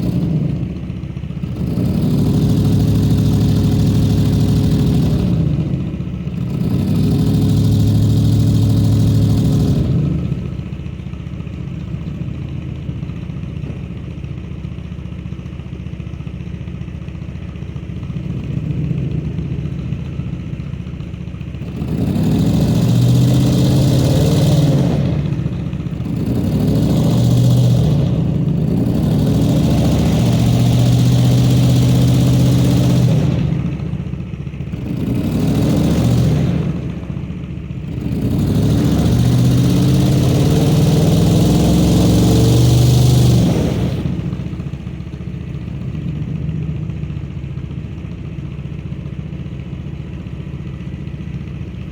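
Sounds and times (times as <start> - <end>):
car engine revving and idling: 0.0 - 51.9.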